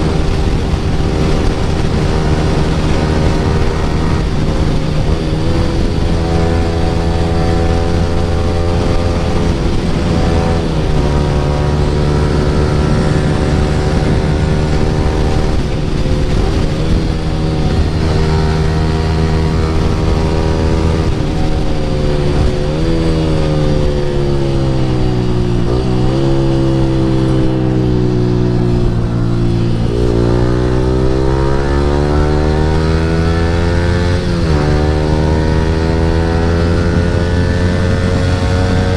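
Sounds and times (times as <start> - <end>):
motorcycle engine riding: 0.0 - 38.9.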